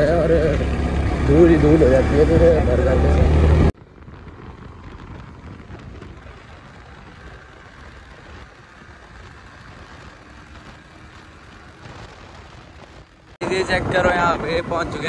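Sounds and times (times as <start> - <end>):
motorcycle engine accelerating: 0.0 - 15.0
wind rush on microphone: 2.2 - 15.0.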